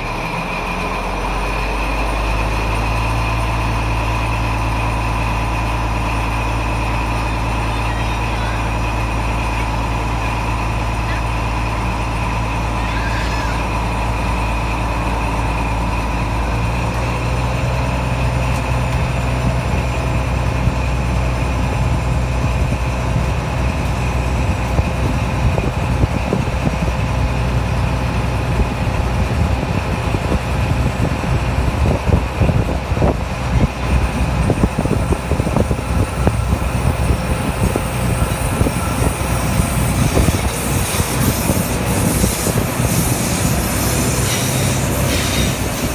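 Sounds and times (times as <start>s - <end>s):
diesel locomotive engine: 0.0s - 45.9s.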